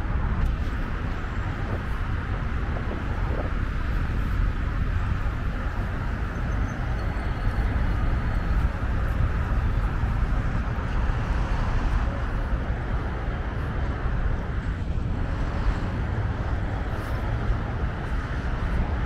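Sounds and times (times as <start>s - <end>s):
highway traffic rumble: 0.0s - 19.0s.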